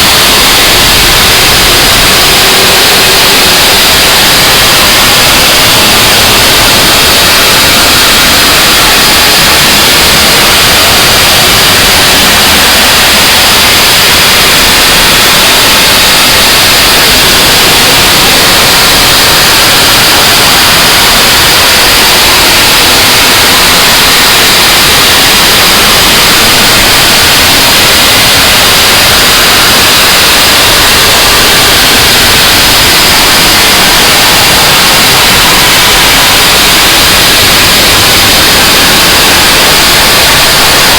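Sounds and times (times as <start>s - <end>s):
harsh noise wall static: 0.0s - 40.9s.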